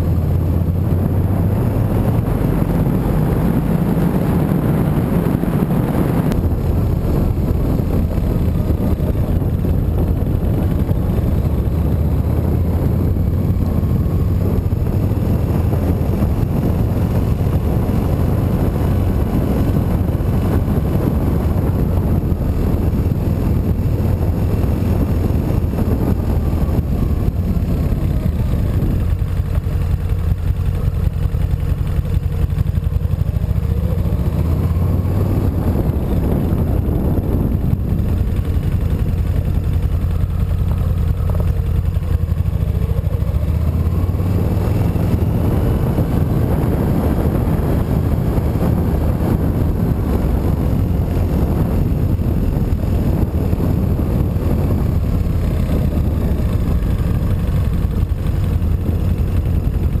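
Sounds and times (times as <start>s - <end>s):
motorcycle engine accelerating: 0.0s - 60.0s.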